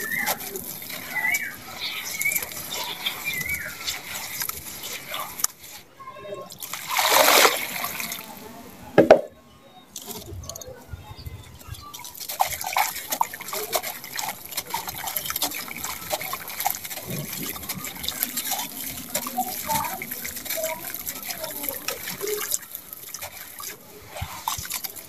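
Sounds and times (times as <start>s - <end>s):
grit trickling into water: 0.0s - 8.6s, 11.4s - 25.0s.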